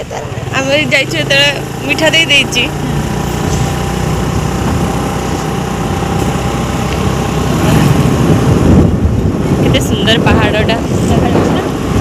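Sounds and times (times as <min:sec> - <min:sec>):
rushing road noise: 0:00.0 - 0:12.0
small motorcycle engine running: 0:00.0 - 0:12.0.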